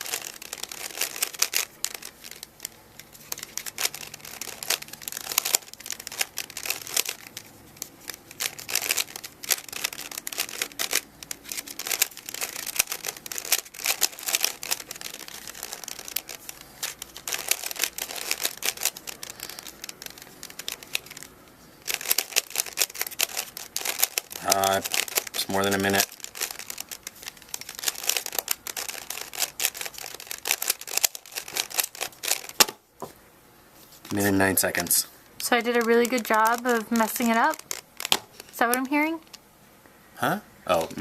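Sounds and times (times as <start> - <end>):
puzzle cube clicking as turned: 0.0 - 32.8, 35.5 - 39.4.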